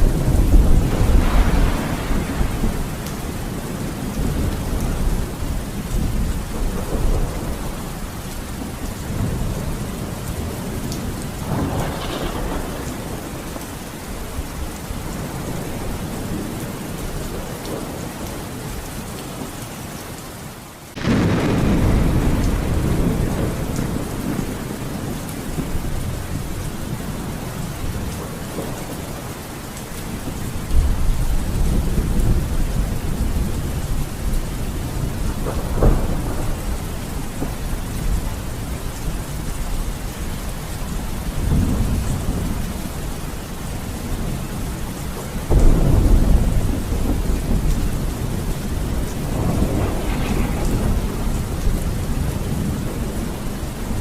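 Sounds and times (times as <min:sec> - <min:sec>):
thunder rumbling: 0:00.0 - 0:19.6, 0:20.9 - 0:54.0
steady rain: 0:00.0 - 0:54.0.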